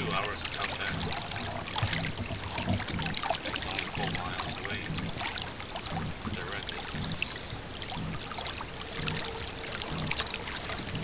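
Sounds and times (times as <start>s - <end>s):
water splashing along a hull: 0.0s - 11.0s.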